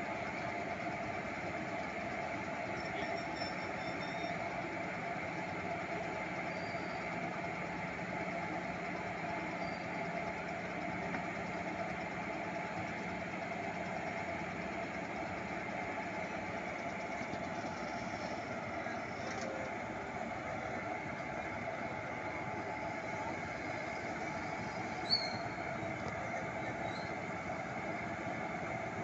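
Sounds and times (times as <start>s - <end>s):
diesel locomotives idling: 0.0s - 29.0s.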